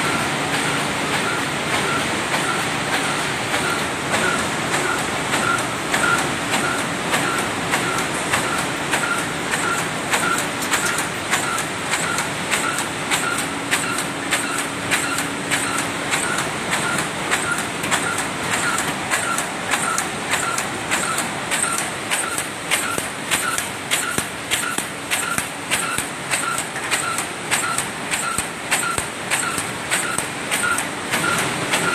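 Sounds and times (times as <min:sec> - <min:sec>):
box machine mechanical clatter: 0:00.0 - 0:31.9
sharp machine clack: 0:00.0 - 0:31.9.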